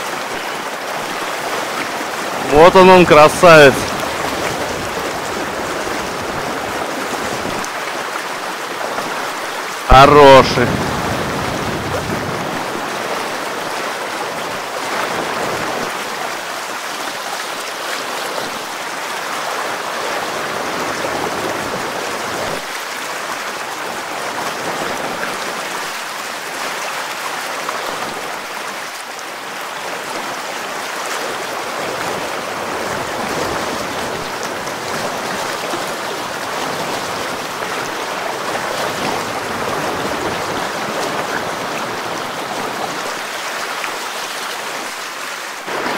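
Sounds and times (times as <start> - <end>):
river water rushing and splashing: 0.0 - 45.9.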